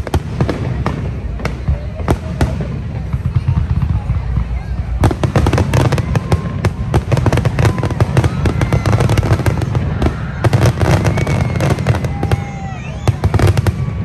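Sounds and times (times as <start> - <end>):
firework crackling: 0.0 - 14.0.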